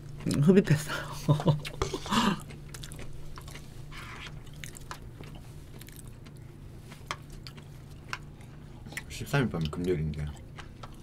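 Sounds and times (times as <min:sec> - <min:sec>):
people chewing food: 0:00.0 - 0:11.0
steady low hum: 0:00.0 - 0:11.0.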